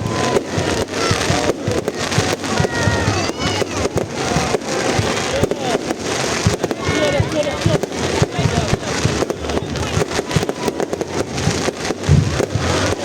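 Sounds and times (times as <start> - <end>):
fireworks bangs and cracks: 0.0 - 13.0
gliding firework tones: 0.0 - 13.0.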